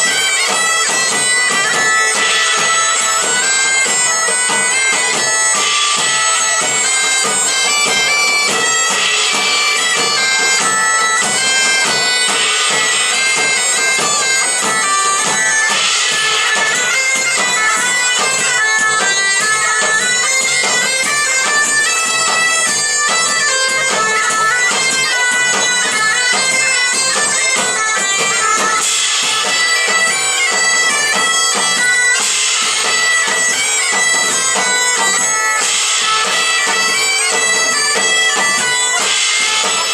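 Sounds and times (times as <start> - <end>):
bagpipes melody over drone: 0.0 - 39.9
faint regular drumming: 0.0 - 39.9.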